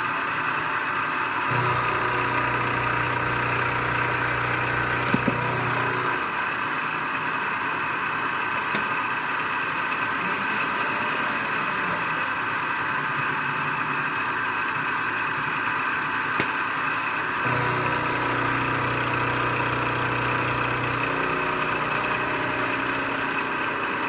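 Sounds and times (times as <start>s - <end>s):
milling machine whine: 0.0s - 24.0s.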